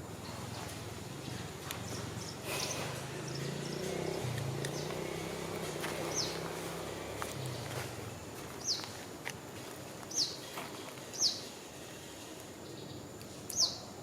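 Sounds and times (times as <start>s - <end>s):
bird chirping: 0.2s - 9.0s, 10.1s - 11.5s, 12.6s - 13.9s.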